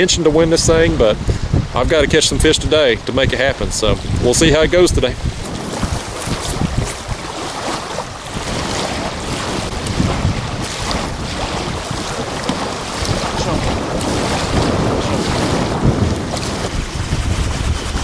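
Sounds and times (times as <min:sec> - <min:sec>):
small waves lapping on shore: 0:00.0 - 0:18.0
wind buffeting microphone: 0:00.0 - 0:18.0.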